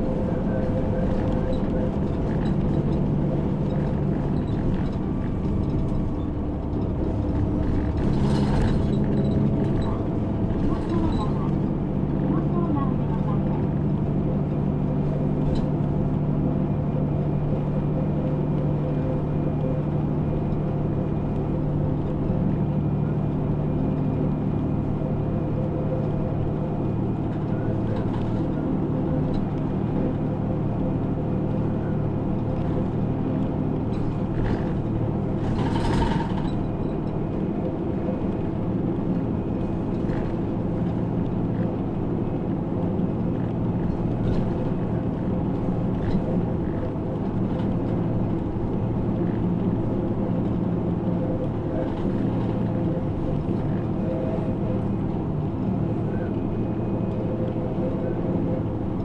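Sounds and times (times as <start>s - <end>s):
bus engine hum: 0.0s - 59.0s.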